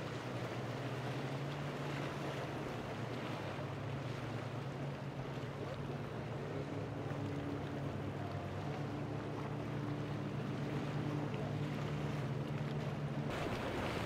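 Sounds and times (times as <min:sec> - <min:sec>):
motorboat engine hum: 0:00.0 - 0:14.0.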